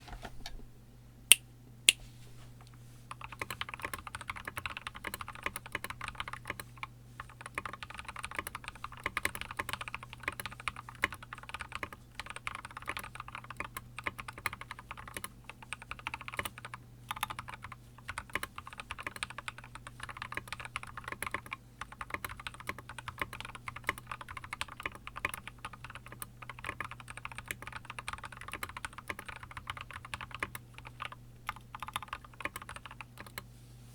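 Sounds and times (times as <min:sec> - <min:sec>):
mechanical keyboard typing: 0:03.1 - 0:33.4.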